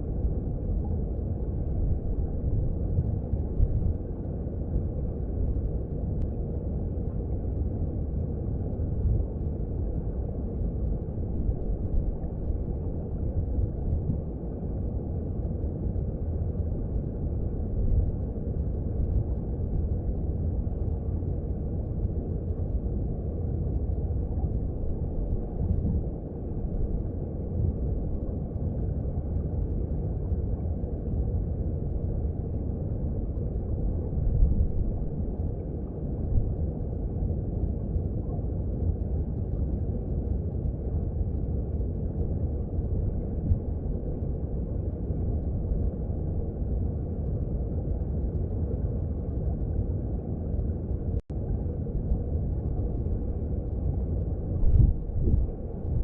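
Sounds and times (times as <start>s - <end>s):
muffled underwater stream rumble: 0.0s - 56.0s.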